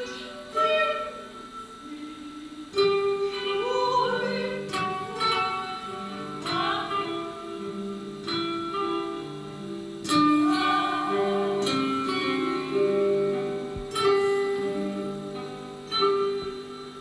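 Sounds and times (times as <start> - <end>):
guitar chords plucked: 0.0 - 17.0
person singing slow melody: 0.0 - 17.0.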